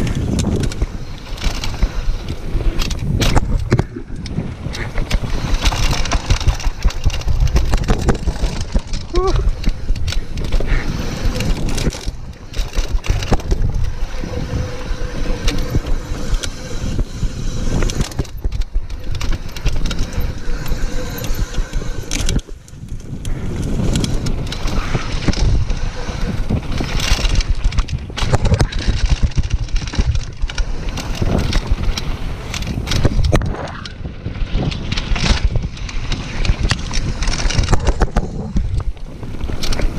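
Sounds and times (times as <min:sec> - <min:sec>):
tyres rolling over dirt and stones: 0:00.0 - 0:33.7, 0:34.3 - 0:39.9
bike chain and parts rattling: 0:00.0 - 0:39.9
wind buffeting microphone: 0:00.0 - 0:39.9.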